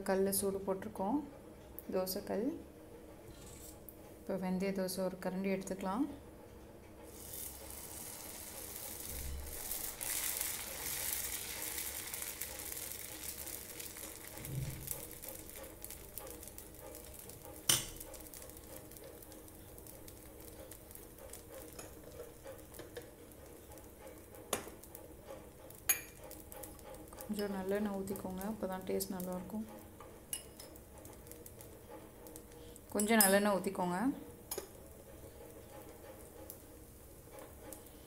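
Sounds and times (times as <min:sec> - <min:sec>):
batter sizzling on a hot griddle: 0:07.1 - 0:38.0.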